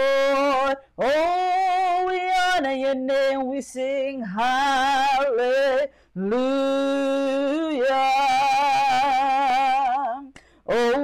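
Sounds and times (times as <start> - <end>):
woman singing a worship song: 0.0 - 11.0.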